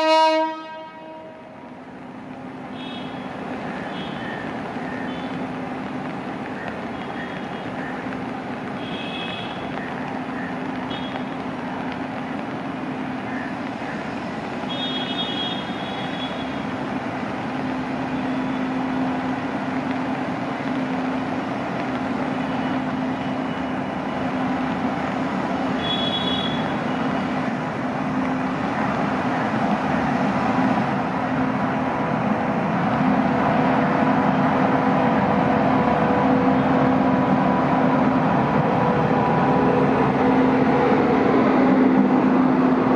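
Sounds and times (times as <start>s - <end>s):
electric locomotive approaching: 0.0s - 42.9s.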